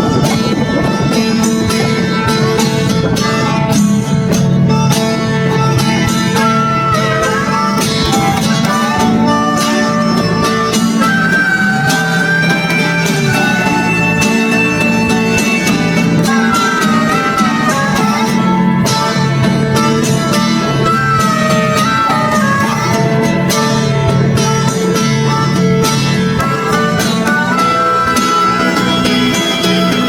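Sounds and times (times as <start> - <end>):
bluegrass music with guitar and fiddle: 0.0 - 30.0.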